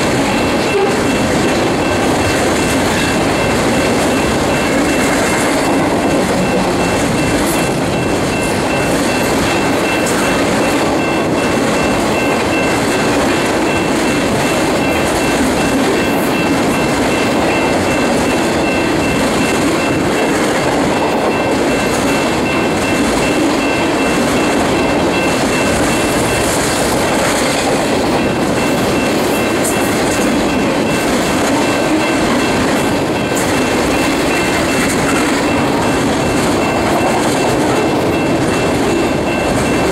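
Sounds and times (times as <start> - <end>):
freight cars rumbling on rails: 0.0 - 39.9.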